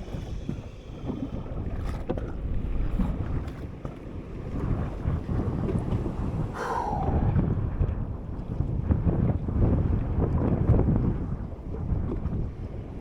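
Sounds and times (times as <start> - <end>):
water washing around boat: 0.0 - 13.0
wind buffeting microphone: 0.0 - 13.0.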